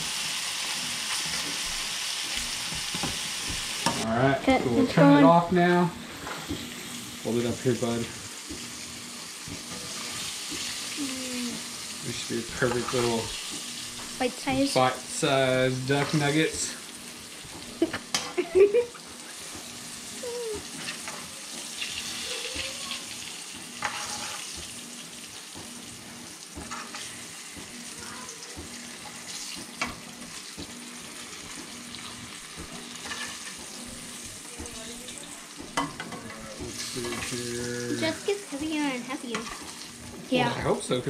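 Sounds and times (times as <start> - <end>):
food sizzling in a skillet: 0.0 - 41.0.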